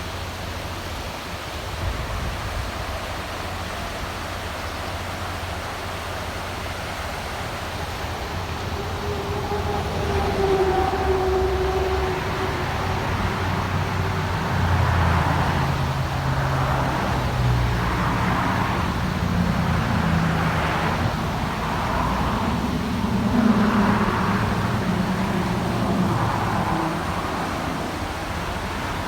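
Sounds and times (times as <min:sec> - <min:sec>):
vehicles passing: 0:04.4 - 0:29.0.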